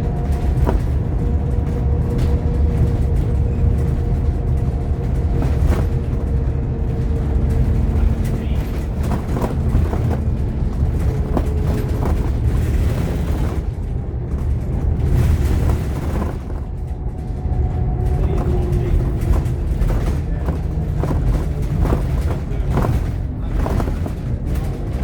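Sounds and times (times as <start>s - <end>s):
bus engine and road rumble: 0.0s - 25.0s
rattles: 0.2s - 25.0s.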